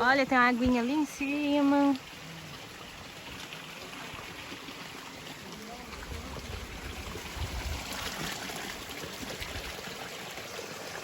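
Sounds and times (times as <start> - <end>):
stream water trickling: 0.0 - 11.0.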